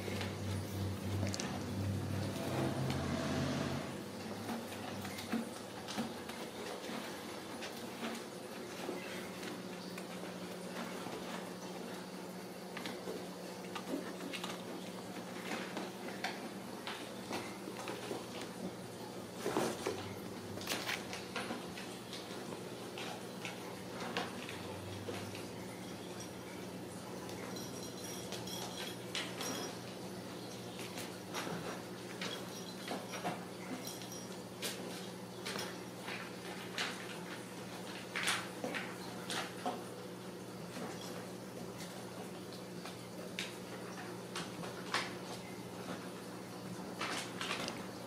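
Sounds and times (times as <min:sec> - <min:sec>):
kittens scuffling and tapping: 0:03.7 - 0:48.0.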